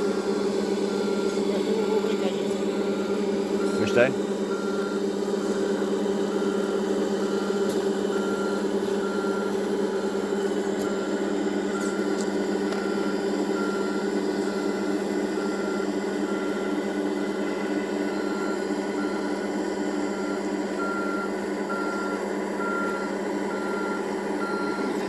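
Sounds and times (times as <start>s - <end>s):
reversing beeper: 0.0s - 25.0s
simulated diesel engine: 0.0s - 25.0s.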